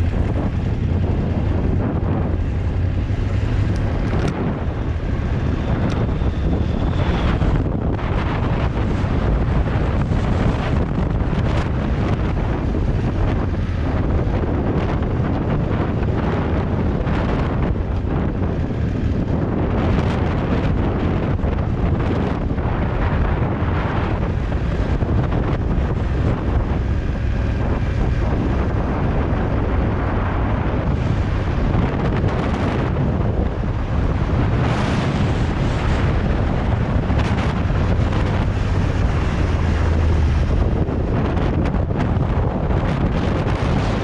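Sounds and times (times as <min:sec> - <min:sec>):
motorcycle engine running: 0:00.0 - 0:44.0
road noise: 0:00.0 - 0:44.0
wind buffeting microphone: 0:00.0 - 0:44.0.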